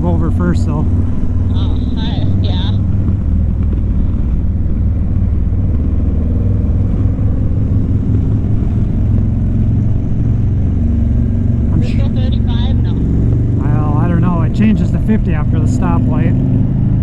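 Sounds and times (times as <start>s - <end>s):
motorcycle engine drone: 0.0s - 17.0s
road and wind noise: 0.0s - 17.0s.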